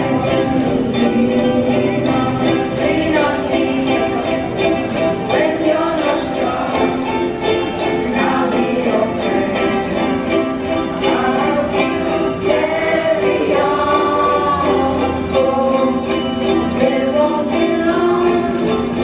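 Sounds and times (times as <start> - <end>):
children singing along: 0.0 - 19.0
children strumming ukuleles: 0.0 - 19.0.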